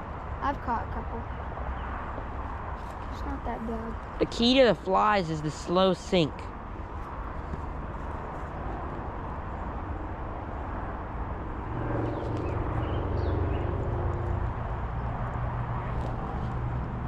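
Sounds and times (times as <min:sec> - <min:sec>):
outdoor rumble: 0:00.0 - 0:17.0
vehicle passing: 0:00.0 - 0:17.0.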